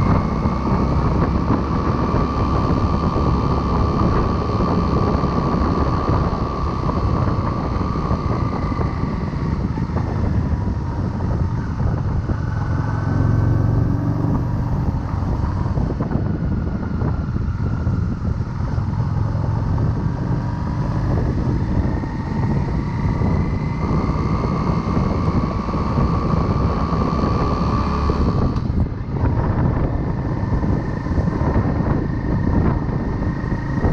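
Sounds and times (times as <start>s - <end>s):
motorcycle engine accelerating: 0.0s - 33.9s
wind rush on microphone: 0.0s - 33.9s.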